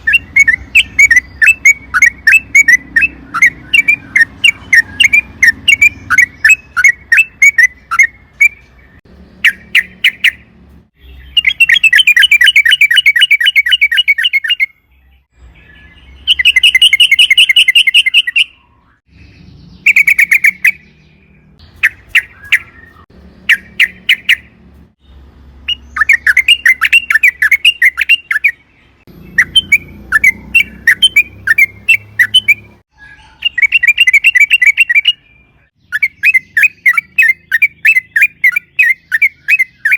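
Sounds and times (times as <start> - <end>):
bulbul song with fast trills: 0.0 - 39.9.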